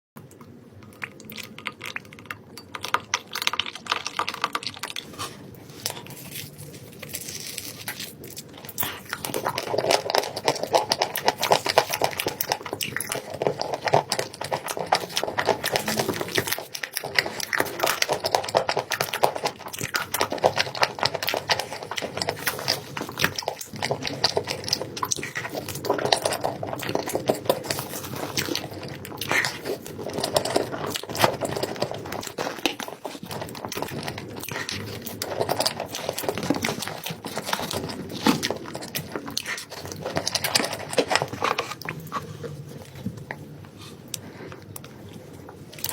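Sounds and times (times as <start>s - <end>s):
person chewing: 0.3s - 45.9s.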